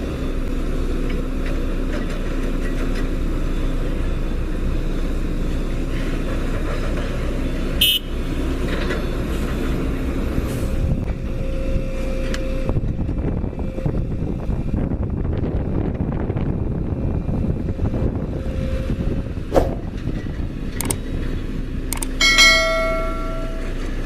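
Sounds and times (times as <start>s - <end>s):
construction machinery engine: 0.0s - 24.0s.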